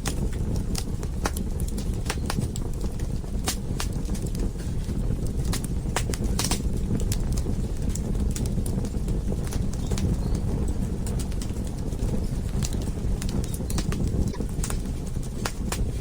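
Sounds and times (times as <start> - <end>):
fire popping and snapping: 0.0 - 16.0
wood fire crackling: 0.0 - 16.0.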